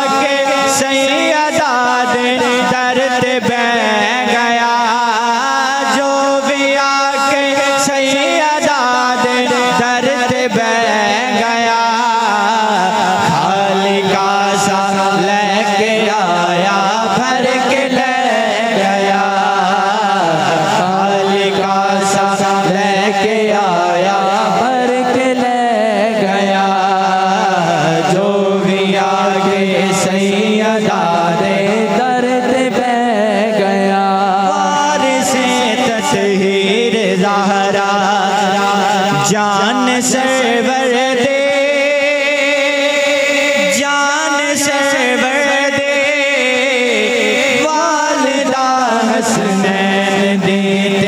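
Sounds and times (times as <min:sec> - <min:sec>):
person singing devotional poem: 0:00.0 - 0:51.0
steady held drone: 0:00.0 - 0:51.0.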